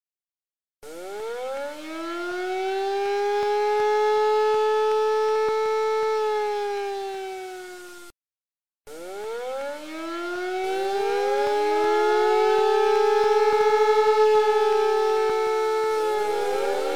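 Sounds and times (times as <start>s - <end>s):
siren wailing: 0.8s - 8.1s, 8.9s - 16.9s.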